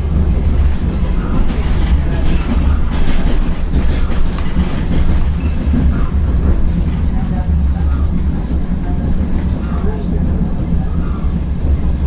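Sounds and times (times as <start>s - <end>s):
train rumbling: 0.0s - 12.0s
wheels clattering on rails: 0.0s - 12.0s.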